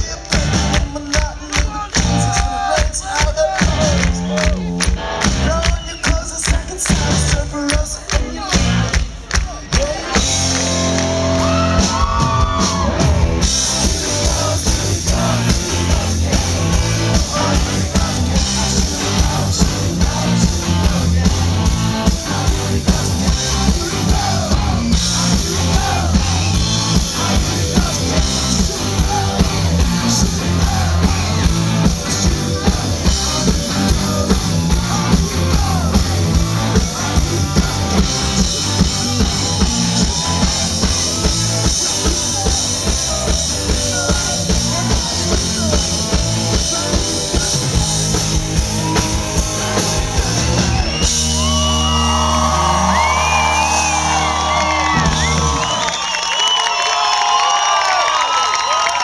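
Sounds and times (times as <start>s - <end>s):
lead vocal singing: 0.0s - 4.7s, 5.4s - 55.9s
live rock band playing: 0.0s - 56.3s.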